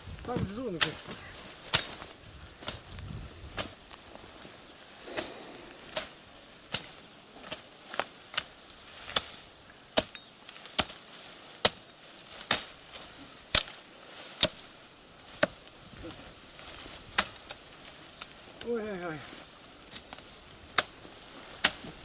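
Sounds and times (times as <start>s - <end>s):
blade chopping branches: 0.2s - 4.2s, 5.0s - 22.0s.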